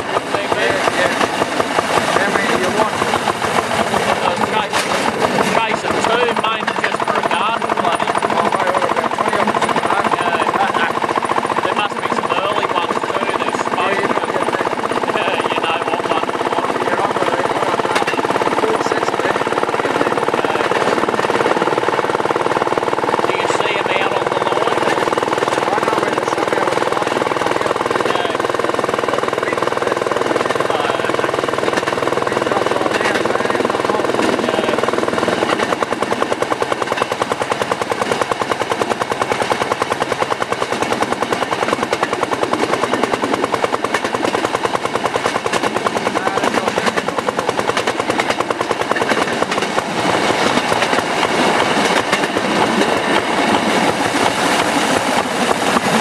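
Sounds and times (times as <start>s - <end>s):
rail car engine running: 0.0s - 56.0s.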